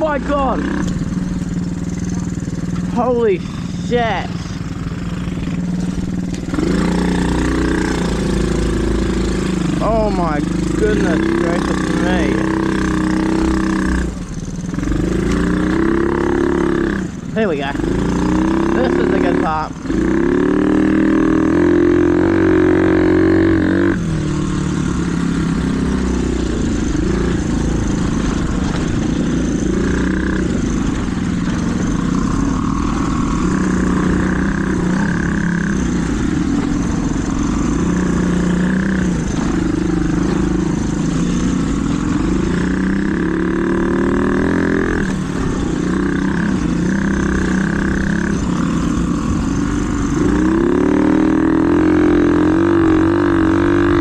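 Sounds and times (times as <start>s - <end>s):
mini bike engine running hard: 0.0s - 54.0s.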